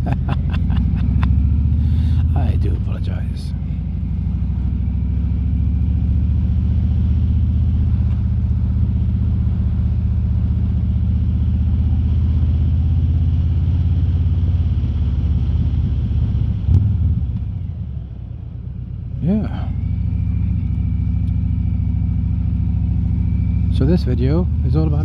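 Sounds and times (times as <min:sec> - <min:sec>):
motorcycle engine droning: 0:00.0 - 0:25.0.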